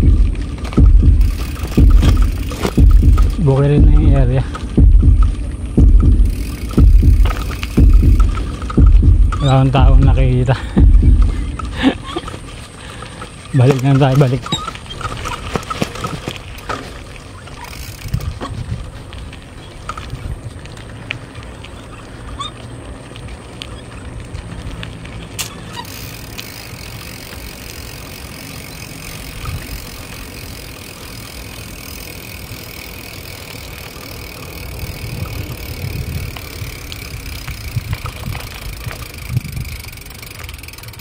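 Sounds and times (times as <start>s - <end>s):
wind rumbling on microphone: 0.0s - 31.8s, 32.4s - 41.0s
bicycle tyre noise: 0.0s - 41.0s
bike clicks and rattles: 0.0s - 41.0s.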